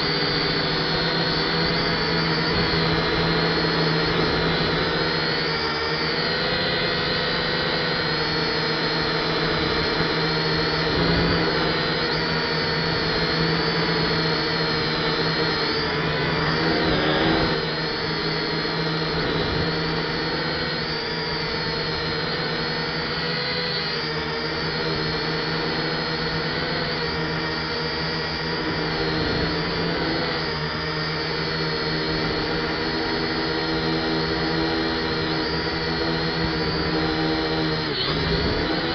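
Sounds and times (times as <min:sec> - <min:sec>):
drone propellers whining: 0:00.0 - 0:38.9.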